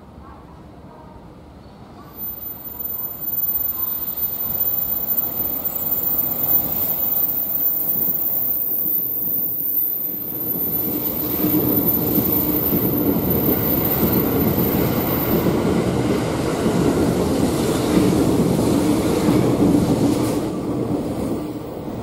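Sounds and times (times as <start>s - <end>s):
train wheels rumbling past: 2.0s - 22.0s.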